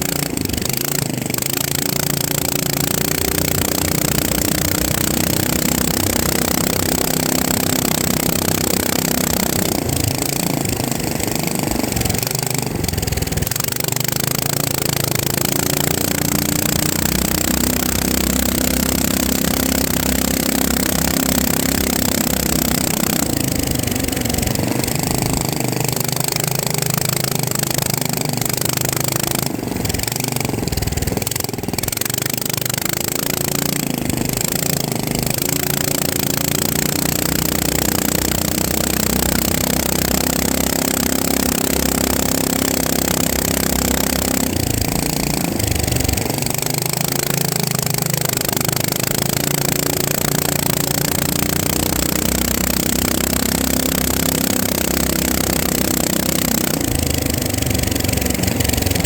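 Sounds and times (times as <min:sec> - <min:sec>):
drone propellers whirring: 0:00.0 - 0:59.0.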